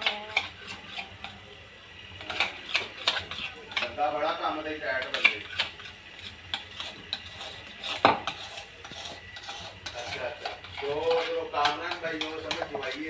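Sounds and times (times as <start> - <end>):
spoon stirring in ceramic bowl: 0.0 - 1.4, 2.2 - 4.0, 4.9 - 13.0.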